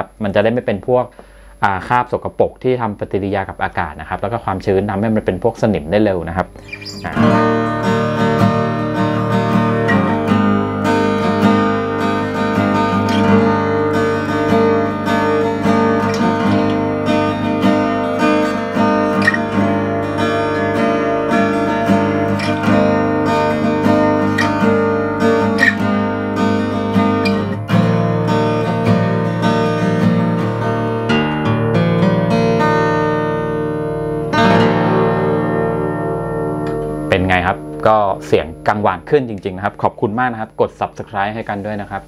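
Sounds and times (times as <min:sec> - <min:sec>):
acoustic guitar fingerstyle: 0:06.3 - 0:42.0.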